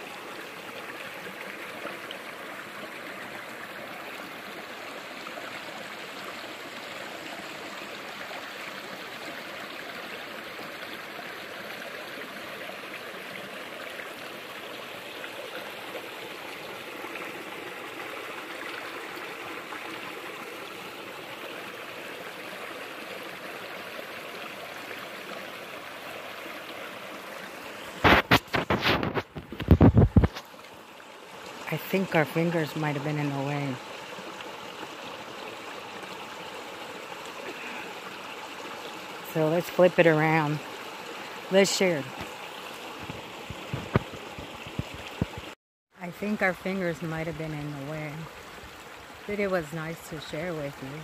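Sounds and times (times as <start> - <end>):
stream rushing: 0.0 - 51.0.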